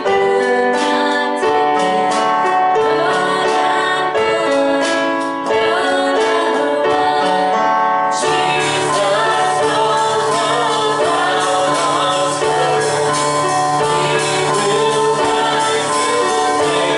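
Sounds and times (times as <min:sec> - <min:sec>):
congregation singing: 0:00.0 - 0:16.9
instrumental accompaniment: 0:00.0 - 0:16.9.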